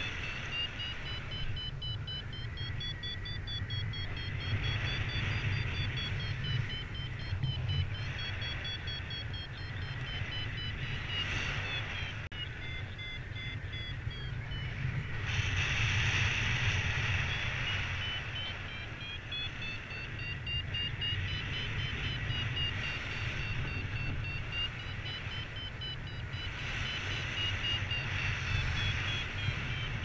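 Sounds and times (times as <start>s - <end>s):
variometer beeping: 0.0s - 15.4s, 16.7s - 30.0s
wind on microphone: 0.0s - 30.0s.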